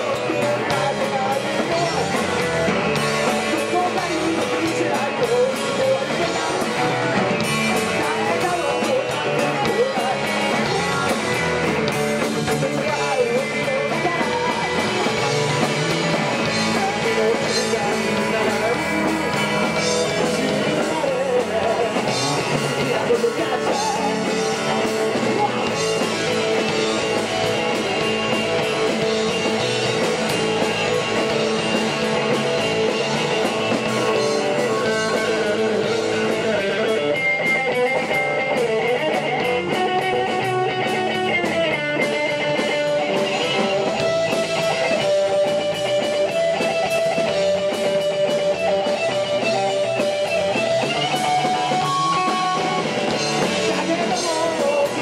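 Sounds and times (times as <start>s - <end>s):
bass guitar: 0.0s - 55.0s
drums: 0.0s - 55.0s
electric guitar: 0.0s - 55.0s
person singing through speakers: 0.0s - 55.0s.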